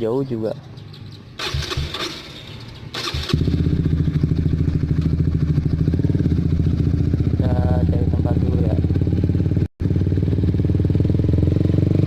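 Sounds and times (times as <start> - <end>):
motorcycle engine idling: 0.3 - 12.0
motorcycle engine starting: 0.6 - 12.0.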